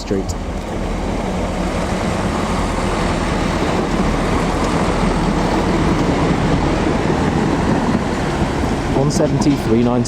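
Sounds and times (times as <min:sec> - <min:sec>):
train engine rumble: 0:00.0 - 0:10.0.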